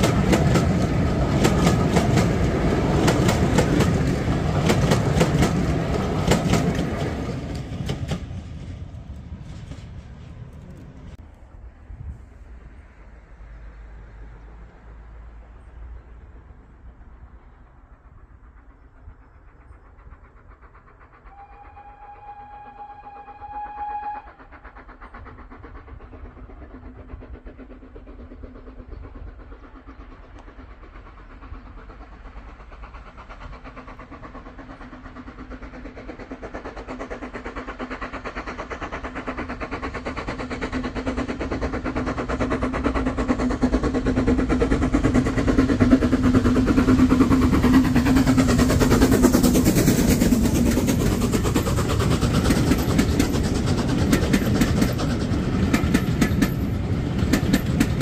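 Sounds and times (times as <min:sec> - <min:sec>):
steam train passing: 0:00.0 - 0:58.0.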